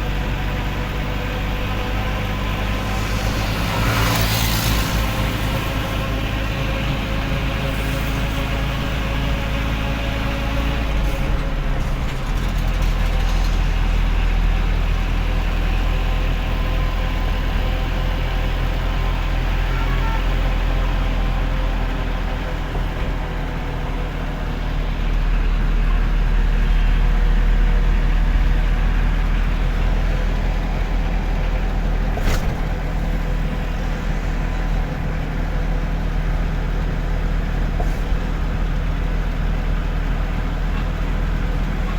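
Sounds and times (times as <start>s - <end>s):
truck engine rumble: 0.0s - 41.9s.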